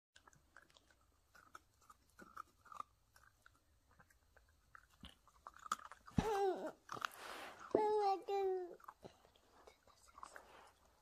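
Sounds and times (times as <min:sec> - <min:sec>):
puppy crunching cookie: 0:00.2 - 0:11.0.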